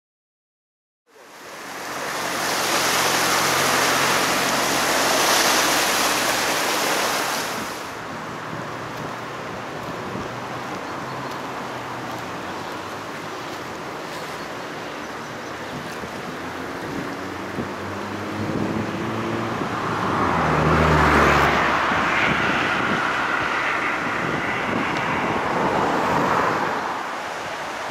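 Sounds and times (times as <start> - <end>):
river rushing: 1.1 - 27.9.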